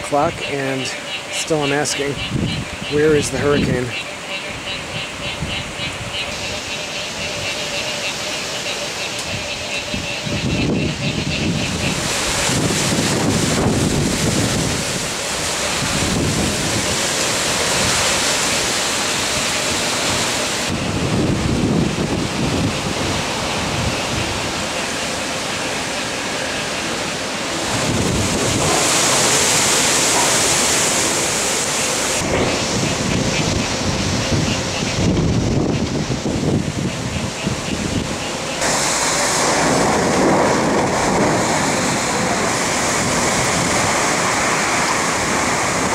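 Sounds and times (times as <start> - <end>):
rain: 0.0 - 45.9
strong wind gusts: 0.0 - 45.9
wind buffeting microphone: 0.0 - 45.9.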